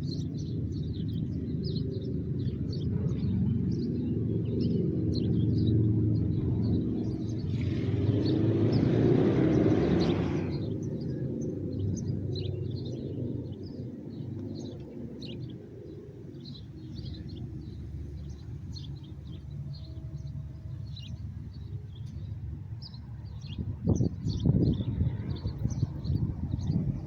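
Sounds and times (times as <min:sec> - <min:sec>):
small birds chirping: 0:00.0 - 0:27.0
steady low rumble: 0:00.0 - 0:27.0
vehicle passing on road: 0:00.1 - 0:27.0.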